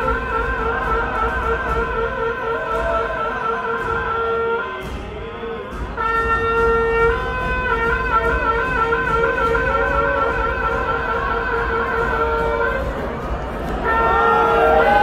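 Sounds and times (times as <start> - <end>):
music with long held notes: 0.0 - 15.0.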